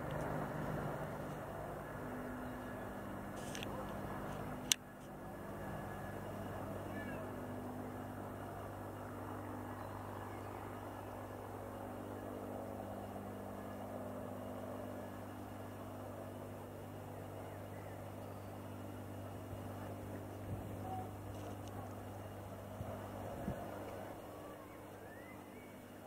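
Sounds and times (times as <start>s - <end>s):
distant aircraft engines droning: 0.0s - 26.0s.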